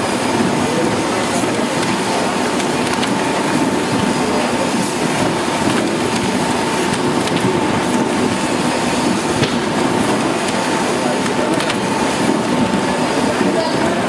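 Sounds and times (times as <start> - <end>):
machine clattering: 0.0 - 14.0.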